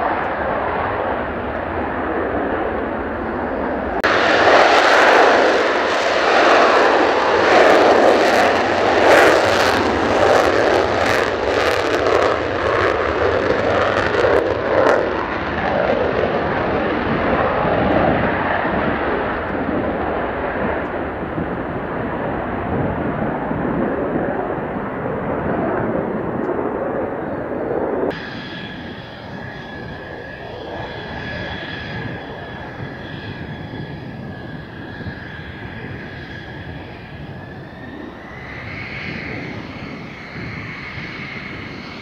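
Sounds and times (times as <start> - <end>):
jet engine roaring with crackle: 0.0 - 42.0.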